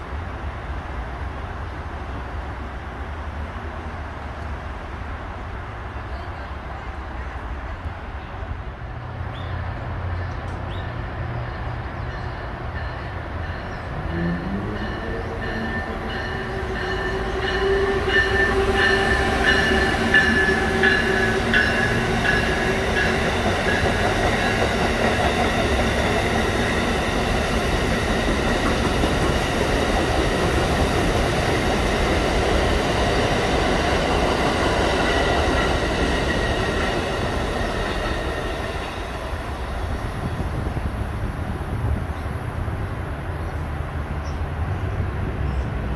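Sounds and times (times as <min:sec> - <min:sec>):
rush of passing train cars: 0:00.0 - 0:45.9
electric locomotive whine: 0:06.2 - 0:45.9.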